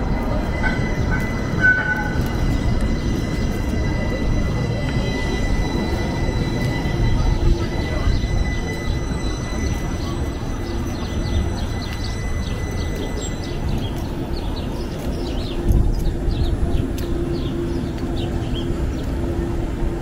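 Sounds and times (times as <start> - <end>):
thin steady whine: 0.0 - 20.0
traffic rumble: 0.0 - 20.0.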